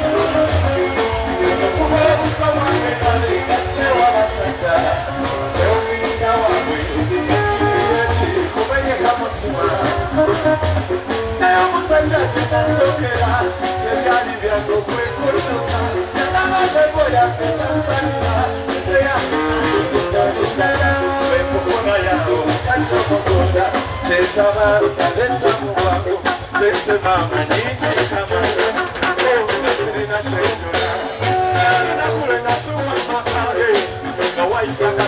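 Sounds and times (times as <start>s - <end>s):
live band music: 0.0s - 35.0s
man singing into microphone: 0.0s - 35.0s.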